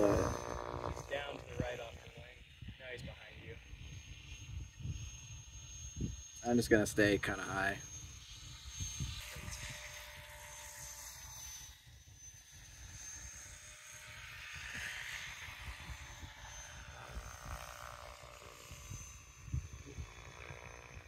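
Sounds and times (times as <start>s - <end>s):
distant model aircraft drone: 0.0s - 21.0s.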